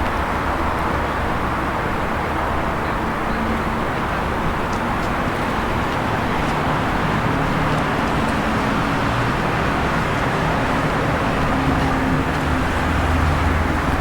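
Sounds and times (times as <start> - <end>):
city street noise: 0.0 - 14.0.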